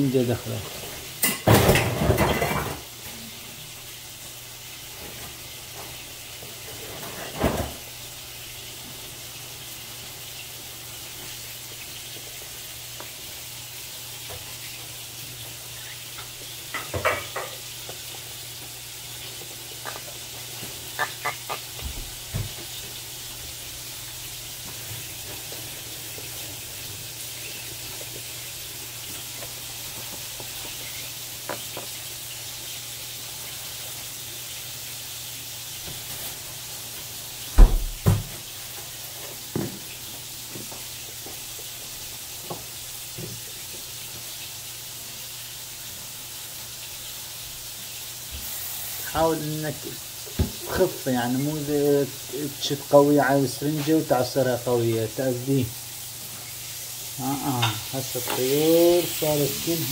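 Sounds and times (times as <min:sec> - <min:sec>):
steady hiss with low hum: 0:00.0 - 0:59.9.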